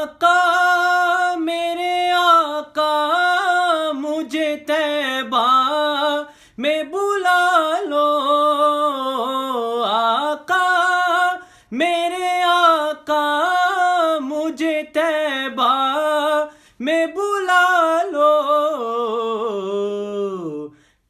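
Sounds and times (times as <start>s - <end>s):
man singing unaccompanied: 0.0s - 20.9s.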